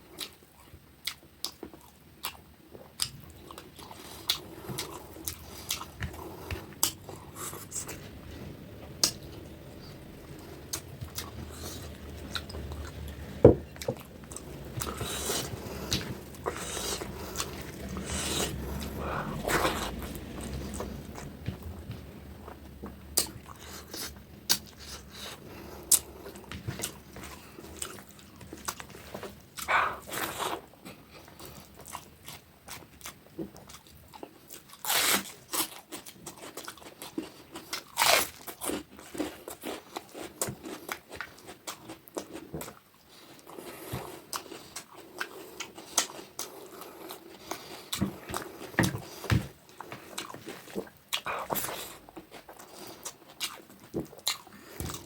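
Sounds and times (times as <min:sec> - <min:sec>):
person chewing and crunching: 0:00.0 - 0:55.0.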